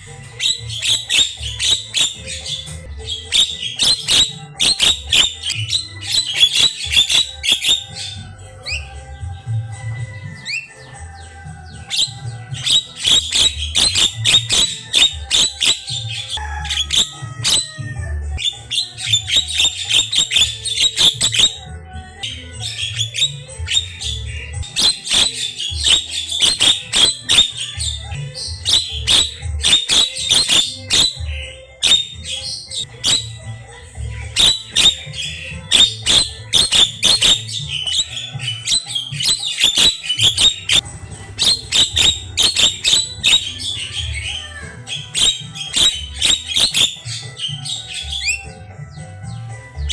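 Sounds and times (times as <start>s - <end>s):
myna bird singing: 0.0s - 49.9s.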